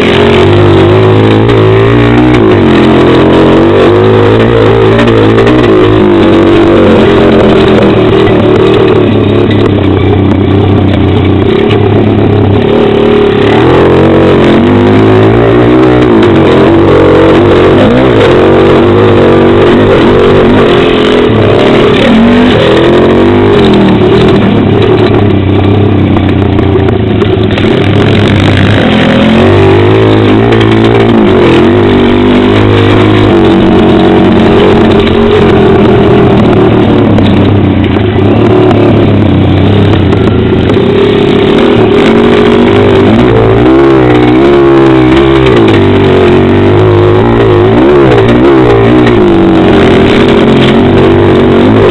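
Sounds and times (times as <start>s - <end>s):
small motorbike engine revving: 0.0s - 25.9s, 27.2s - 51.9s.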